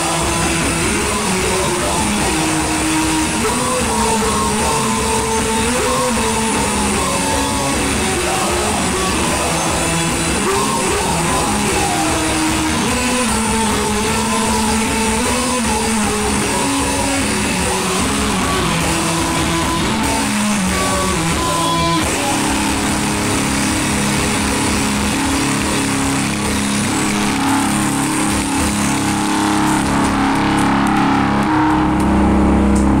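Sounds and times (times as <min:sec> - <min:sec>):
electric guitar: 0:00.0 - 0:33.0
rock band playing: 0:00.0 - 0:33.0.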